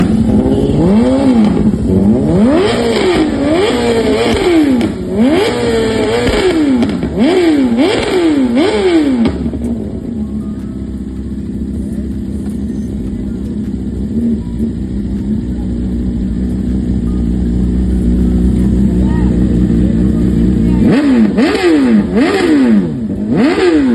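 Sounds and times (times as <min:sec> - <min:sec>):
motorcycle engine idling: 0:00.0 - 0:23.9
motorcycle engine revving: 0:00.0 - 0:23.9.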